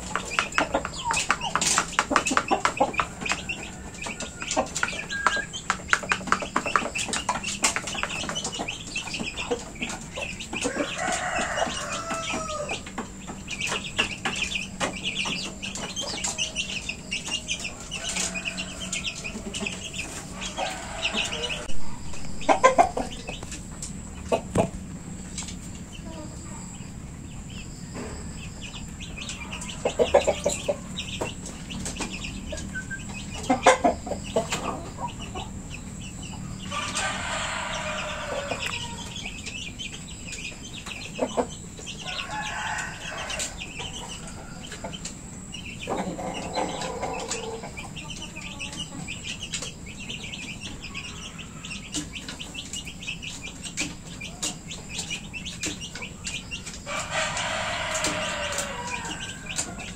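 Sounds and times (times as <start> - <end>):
chickens clucking and calling: 0.0 - 59.9
small birds chirping faintly: 0.0 - 59.9.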